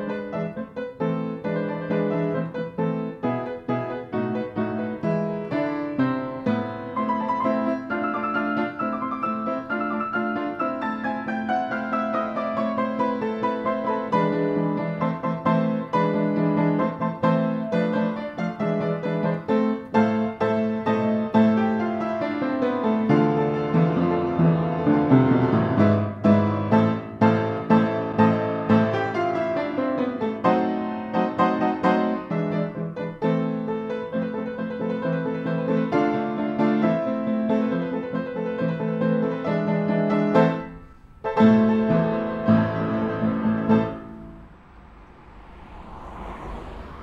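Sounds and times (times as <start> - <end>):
piano music with quick notes: 0.0 - 44.5.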